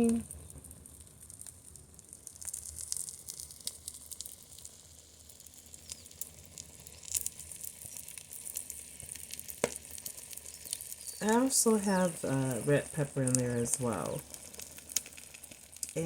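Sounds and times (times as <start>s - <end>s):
small crackling pops: 0.0s - 11.4s, 13.2s - 16.0s
omelette sizzling in skillet: 0.0s - 16.0s.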